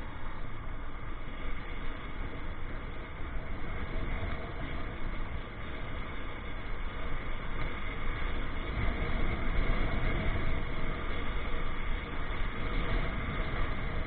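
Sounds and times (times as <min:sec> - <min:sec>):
motorcycle engine rumble: 0:00.0 - 0:14.0
wind on microphone: 0:00.0 - 0:14.0.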